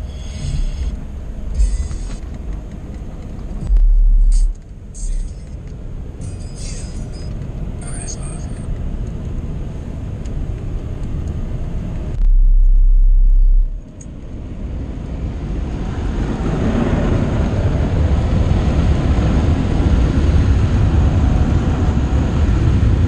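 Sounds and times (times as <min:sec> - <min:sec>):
loud deep rumble: 0:00.0 - 0:07.1, 0:08.8 - 0:23.0
car road and engine noise: 0:00.0 - 0:23.0.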